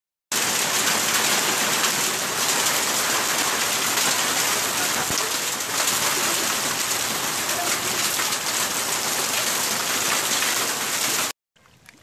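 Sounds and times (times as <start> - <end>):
hail pelting the ground: 0.3 - 11.3.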